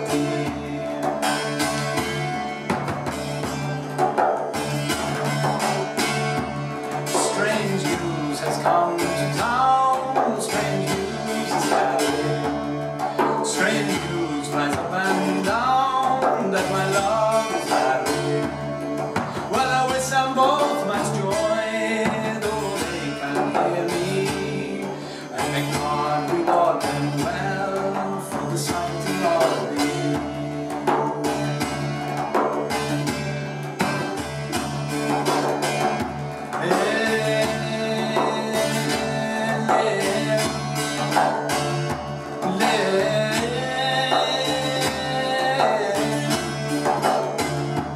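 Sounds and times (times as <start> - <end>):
bouzouki strumming over a drone: 0.0 - 47.9
frame drum played by hand: 0.0 - 47.9
ornamented melody line: 0.0 - 47.9.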